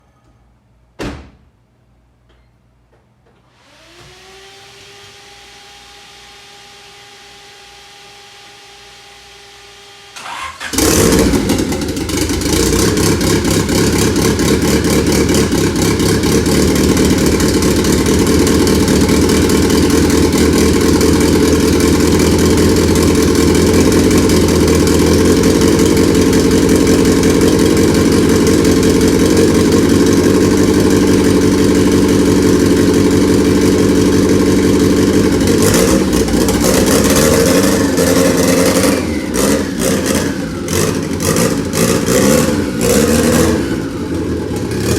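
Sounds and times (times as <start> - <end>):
car engine starting and running: 7.3 - 44.9.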